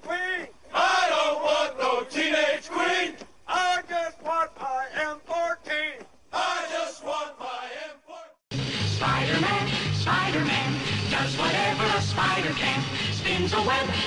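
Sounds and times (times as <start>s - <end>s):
men chanting: 0.1s - 4.2s, 4.9s - 8.4s, 9.0s - 14.0s.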